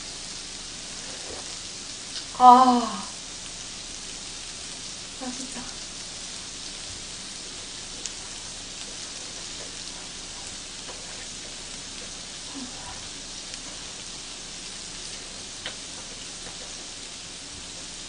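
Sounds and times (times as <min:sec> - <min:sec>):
food sizzling on grill plate: 0:00.0 - 0:18.0.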